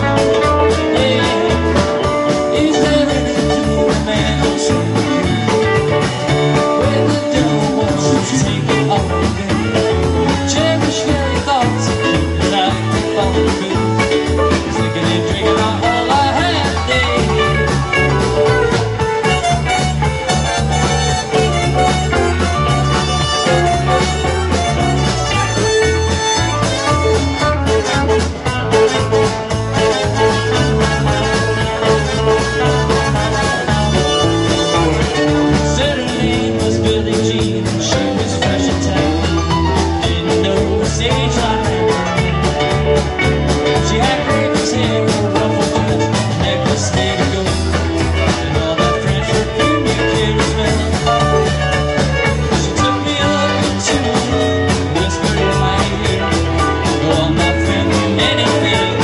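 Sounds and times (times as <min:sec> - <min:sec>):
rock band playing country-rock: 0:00.0 - 0:59.0.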